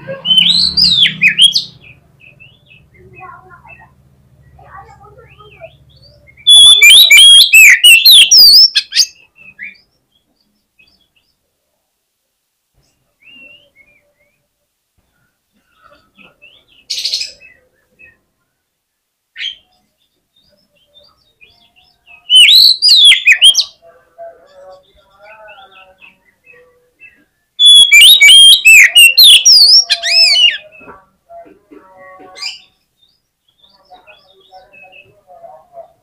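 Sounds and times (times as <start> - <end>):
magpie-robin song: 0.0 - 11.4, 15.1 - 18.4, 19.4 - 36.0.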